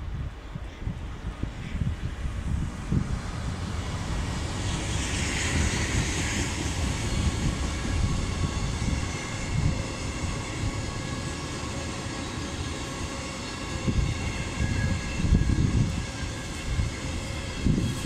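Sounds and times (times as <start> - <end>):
freight train wheels rumbling on rail: 0.0 - 18.0
wind buffeting microphone: 0.0 - 18.0.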